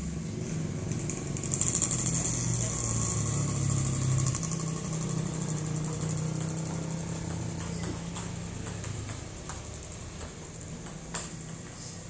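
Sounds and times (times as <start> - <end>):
engine idling: 0.8 - 11.9.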